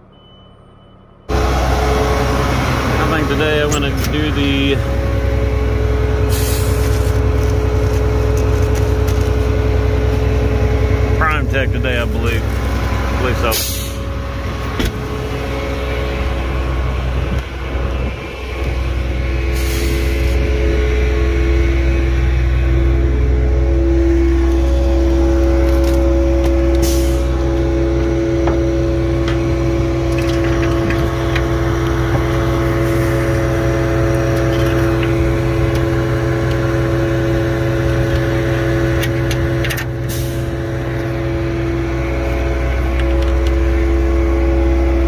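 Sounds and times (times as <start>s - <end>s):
diesel engine droning: 0.0s - 45.0s.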